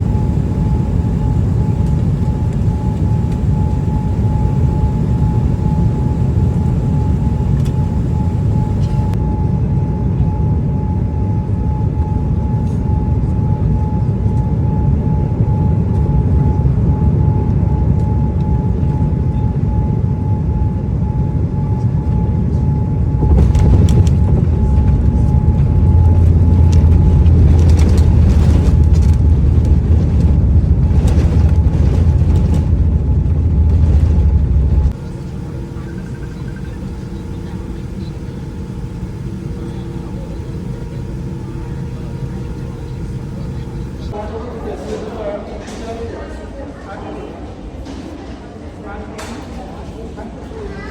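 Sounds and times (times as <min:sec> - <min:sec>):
heavy low rumble: 0:00.0 - 0:44.2
jet airliner rumble: 0:00.0 - 0:45.4
thin steady whine: 0:00.0 - 0:45.4.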